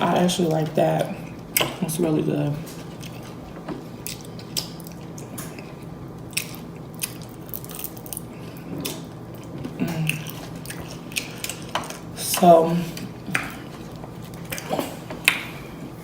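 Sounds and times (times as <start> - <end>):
open-mouthed wet chewing: 2.6 - 16.0.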